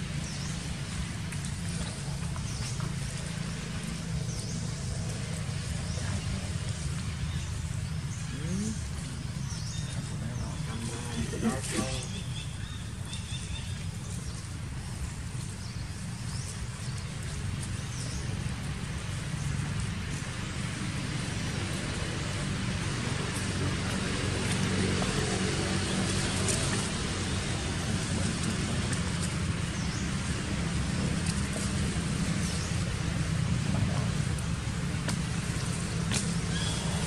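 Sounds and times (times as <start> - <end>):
low rumble with hiss: 0.0 - 37.0.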